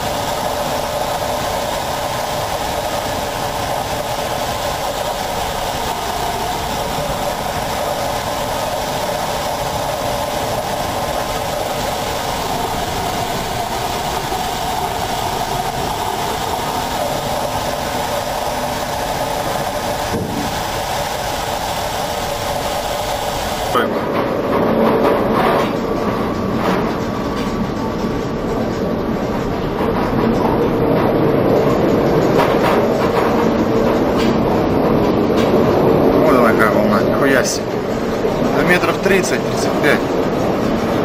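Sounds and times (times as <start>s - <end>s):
ship engine drone: 0.0s - 41.0s
wind over ship: 0.0s - 41.0s.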